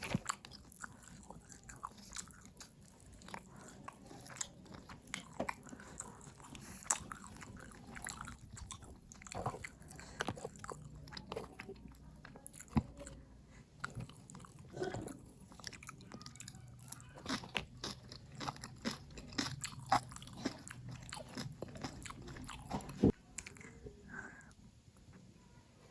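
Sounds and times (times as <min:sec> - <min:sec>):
person chewing: 0:00.0 - 0:24.5.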